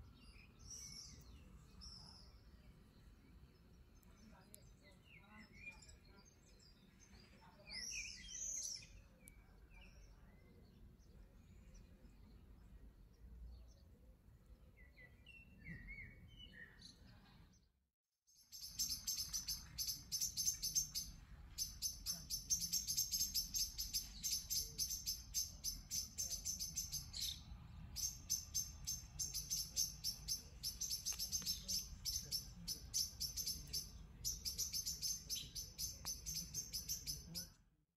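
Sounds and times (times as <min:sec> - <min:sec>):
birds chirping: 0:00.0 - 0:17.6, 0:18.5 - 0:37.6.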